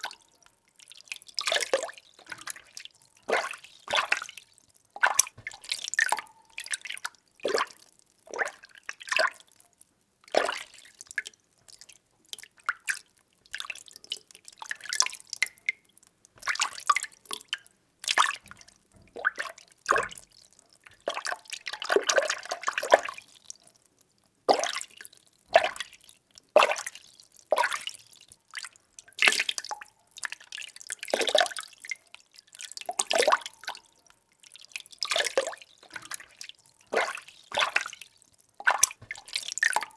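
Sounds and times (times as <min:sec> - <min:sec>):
water sloshing in a container: 0:00.0 - 0:09.6, 0:10.2 - 0:23.7, 0:24.5 - 0:39.9.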